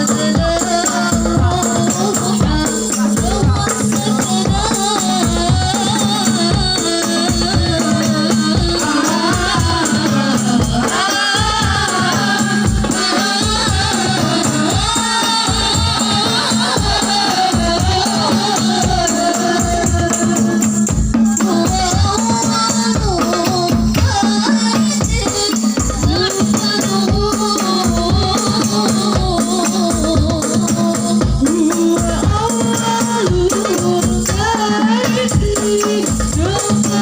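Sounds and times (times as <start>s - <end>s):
jingling percussion: 0.0s - 37.0s
voices singing ornamented melody: 0.0s - 37.0s.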